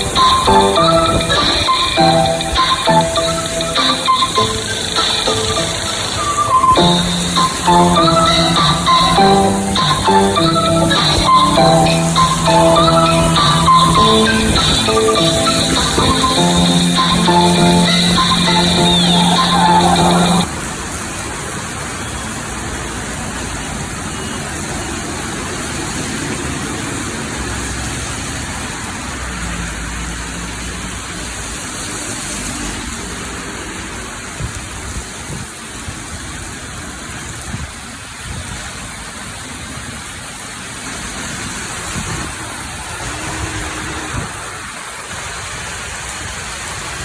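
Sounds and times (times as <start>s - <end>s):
heavy rain pouring: 0.0s - 47.0s
sharp rain patters: 0.0s - 47.0s.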